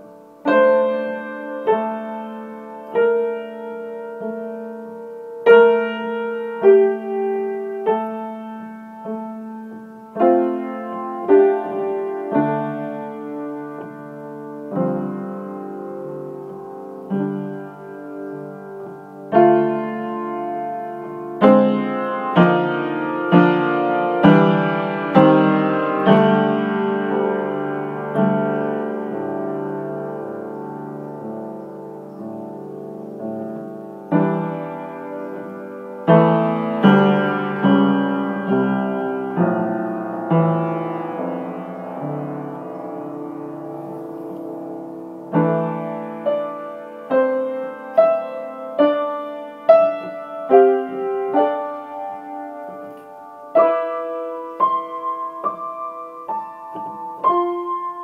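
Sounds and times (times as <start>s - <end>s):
slow piano chords: 0.0s - 58.0s.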